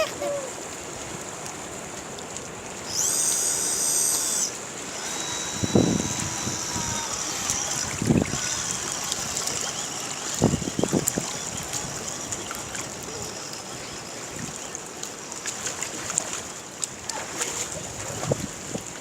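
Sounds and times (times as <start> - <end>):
water rushing and lapping: 0.0 - 19.0.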